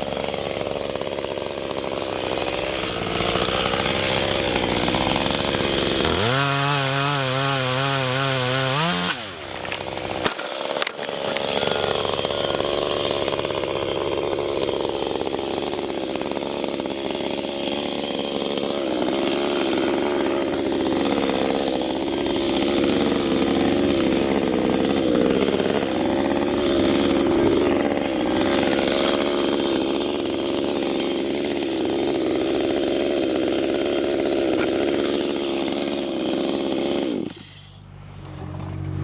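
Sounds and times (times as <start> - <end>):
chainsaw running: 0.0 - 39.0.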